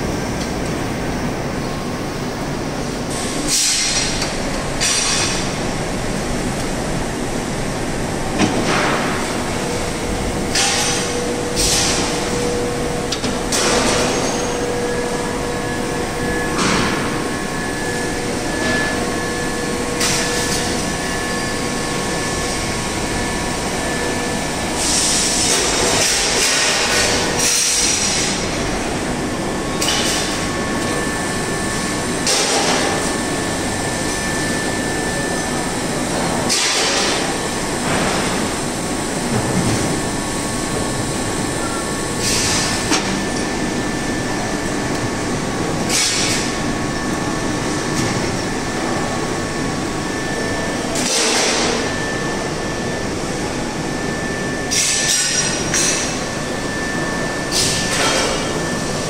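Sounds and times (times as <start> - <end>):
machinery running: 0.0 - 59.0.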